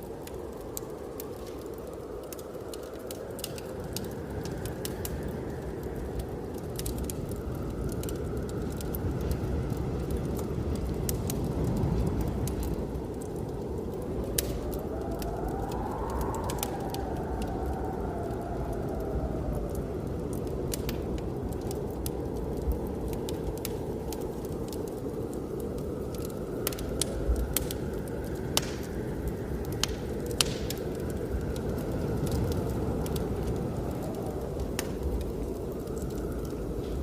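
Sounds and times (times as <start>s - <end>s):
blizzard wind rumble: 0.0s - 37.0s
whistling wind: 0.0s - 37.0s
wood fire crackling and popping: 0.0s - 37.0s.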